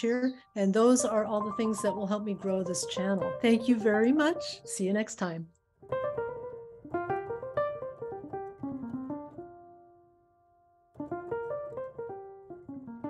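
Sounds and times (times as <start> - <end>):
piano music: 0.0 - 5.1, 5.8 - 13.0.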